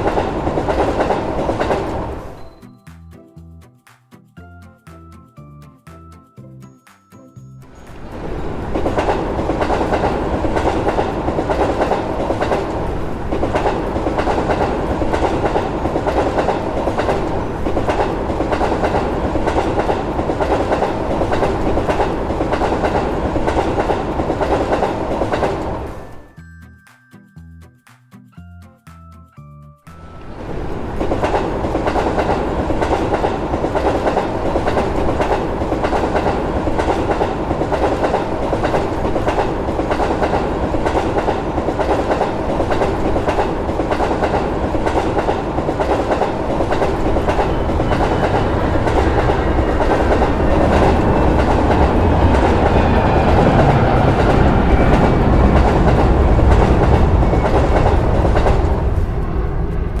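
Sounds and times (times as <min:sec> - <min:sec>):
clickety-clack over rail joints: 0:00.0 - 0:02.6, 0:07.7 - 0:26.2, 0:30.1 - 1:00.0
train wheels rushing on rails: 0:00.0 - 0:02.7, 0:07.6 - 0:26.3, 0:29.9 - 1:00.0.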